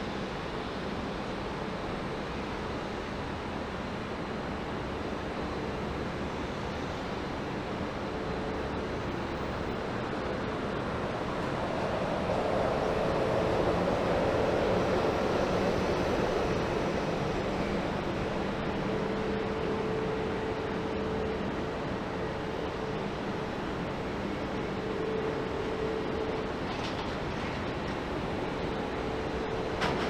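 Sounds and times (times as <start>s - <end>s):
jet airliner engine rush: 0.0s - 30.0s.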